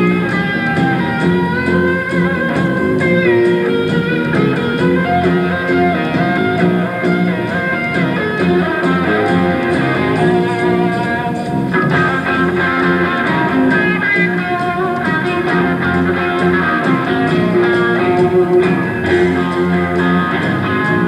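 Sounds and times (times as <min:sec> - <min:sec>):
drums and cymbals beat: 0:00.0 - 0:21.0
electric guitar: 0:00.0 - 0:21.0.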